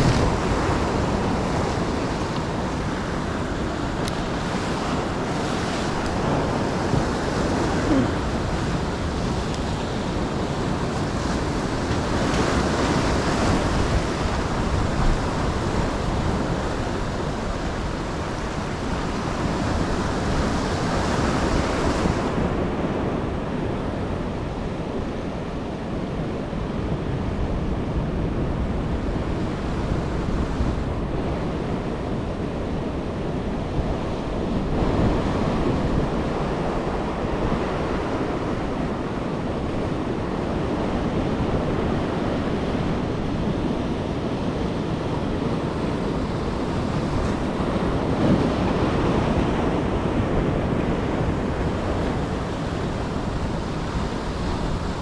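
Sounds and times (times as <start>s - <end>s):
surf breaking on a beach: 0.0s - 55.0s
wind buffeting microphone: 0.0s - 55.0s.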